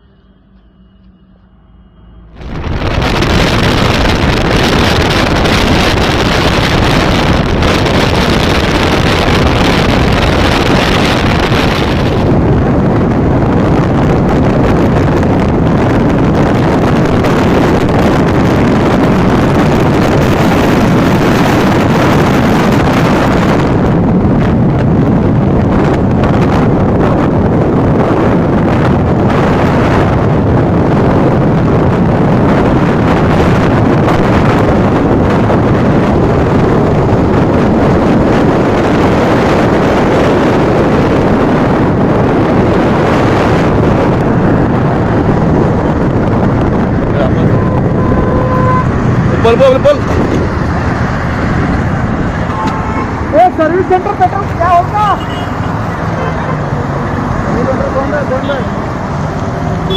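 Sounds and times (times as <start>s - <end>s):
vehicle driving at speed: 0.0s - 59.9s
wind buffeting microphone: 2.4s - 59.9s.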